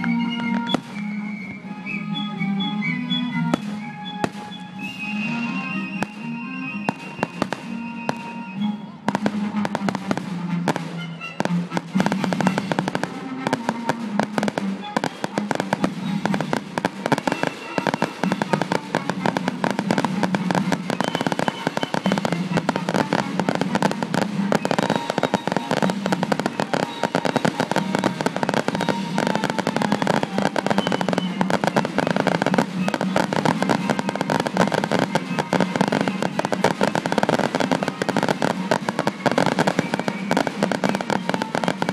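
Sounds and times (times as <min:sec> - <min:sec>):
fireworks bangs and crackling: 0:00.0 - 0:02.0, 0:03.3 - 0:41.9.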